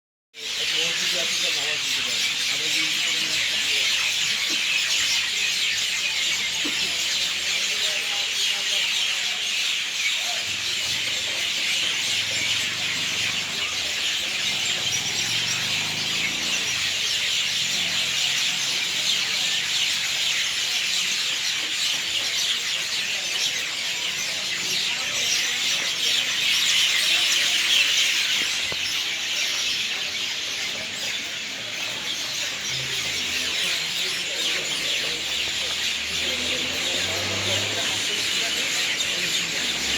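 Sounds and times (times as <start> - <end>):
flock of birds chattering: 0.4 - 39.9.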